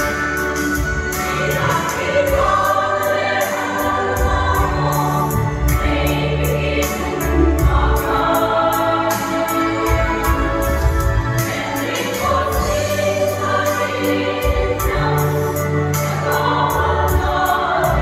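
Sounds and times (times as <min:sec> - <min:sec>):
women's choir singing a hymn: 0:00.0 - 0:18.0.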